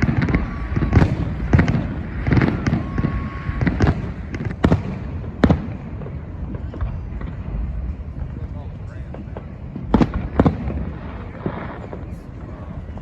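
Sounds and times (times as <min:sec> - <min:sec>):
fireworks bangs: 0:00.0 - 0:13.0
low rumble: 0:00.0 - 0:13.0.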